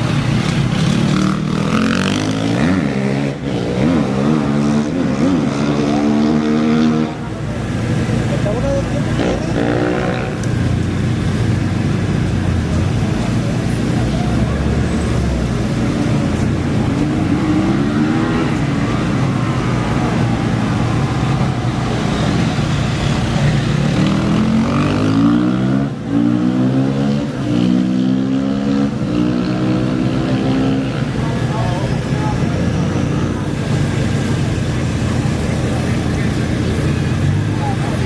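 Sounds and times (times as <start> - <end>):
racing engines idling and revving: 0.0 - 38.0.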